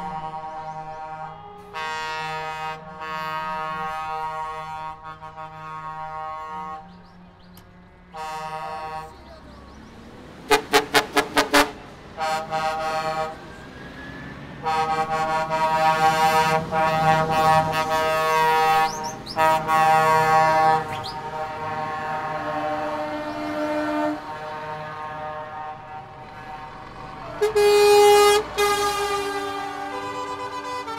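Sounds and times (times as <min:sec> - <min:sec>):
truck air horns blowing: 0:00.0 - 0:07.3, 0:08.0 - 0:09.5, 0:10.4 - 0:30.9
diesel engines running: 0:00.0 - 0:30.9.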